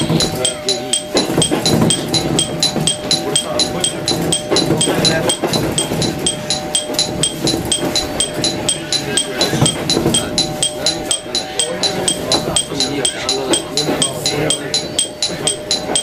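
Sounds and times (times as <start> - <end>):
train humming and rumbling: 0.0 - 16.0
train warning alarm ringing: 0.0 - 16.0.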